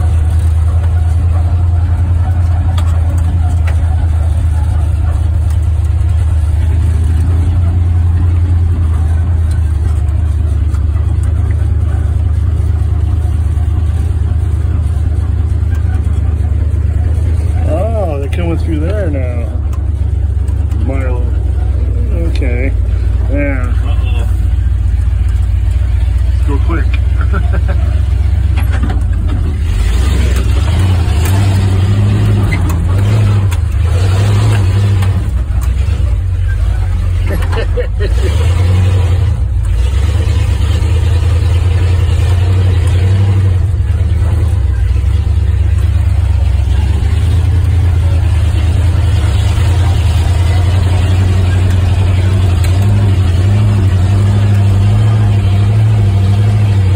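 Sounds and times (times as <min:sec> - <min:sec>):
truck engine rumbling: 0:00.0 - 0:56.9.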